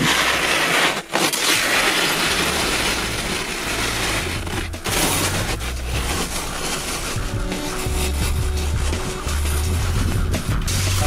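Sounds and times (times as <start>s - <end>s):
snowboard scraping icy snow: 0.0s - 11.0s.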